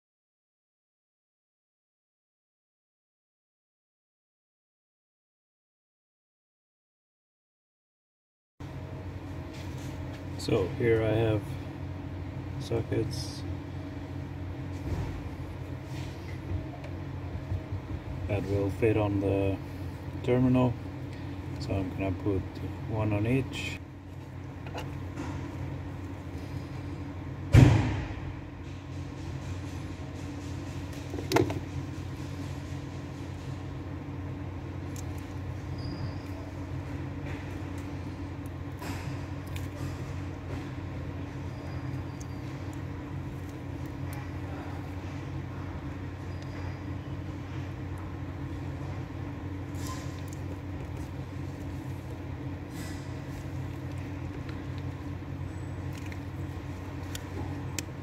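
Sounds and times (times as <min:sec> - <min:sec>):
steady low hum: 0:08.6 - 0:58.0.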